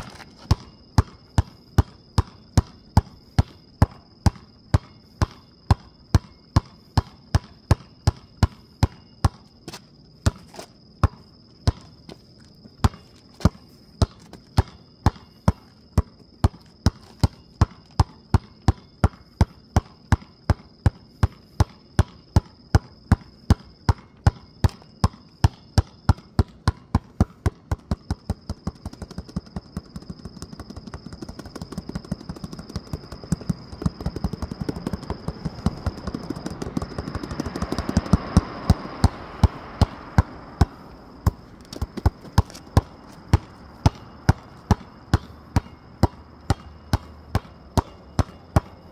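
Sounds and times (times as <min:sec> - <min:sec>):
basketball bouncing on asphalt: 0:00.0 - 0:48.9
steady high-pitched whine: 0:00.0 - 0:48.9.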